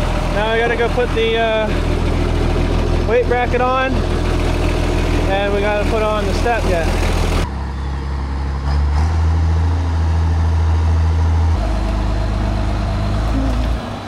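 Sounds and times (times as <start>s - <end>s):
engine idling: 0.0s - 8.8s, 9.7s - 14.0s.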